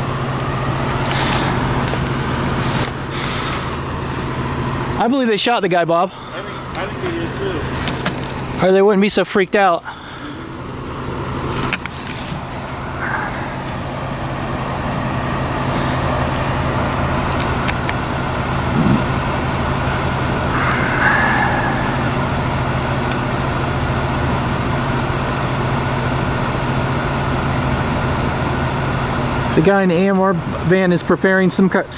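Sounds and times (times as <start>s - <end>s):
vehicle engine idling: 0.0s - 31.9s.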